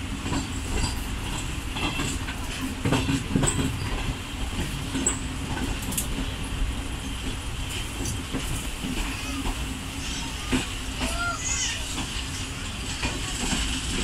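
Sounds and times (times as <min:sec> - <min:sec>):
train carriage rumble: 0:00.0 - 0:14.0
wheels clicking over rail joints: 0:00.0 - 0:14.0.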